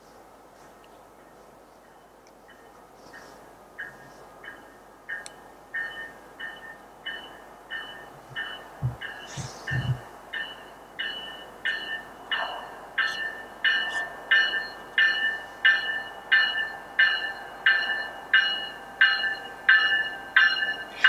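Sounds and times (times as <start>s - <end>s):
railroad warning bell ringing: 1.8s - 21.0s.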